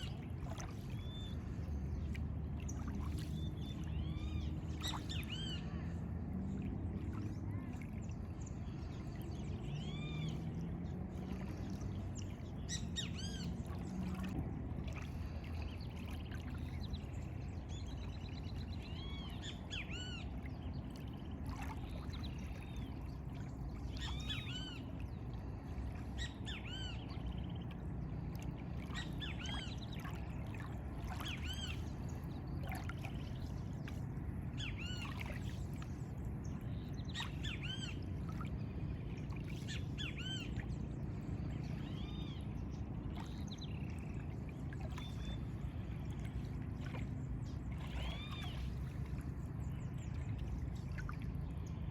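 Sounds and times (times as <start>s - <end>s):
rushing water: 0.0s - 51.9s.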